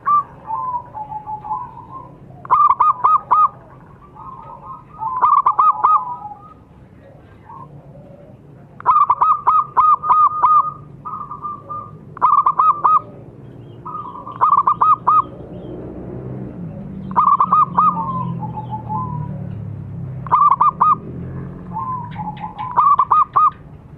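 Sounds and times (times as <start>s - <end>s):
doves cooing: 0.0s - 23.9s.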